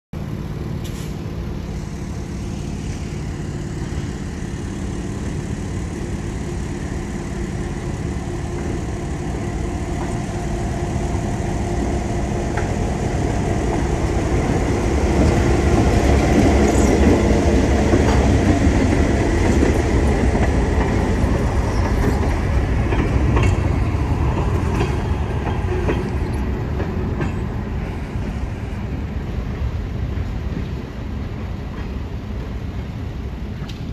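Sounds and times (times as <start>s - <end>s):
diesel locomotive engine rumbling: 0.2s - 33.9s.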